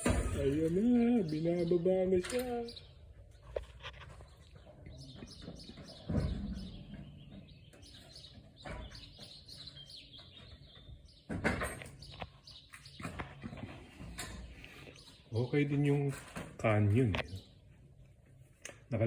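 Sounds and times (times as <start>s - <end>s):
small birds chirping: 0.4s - 19.0s.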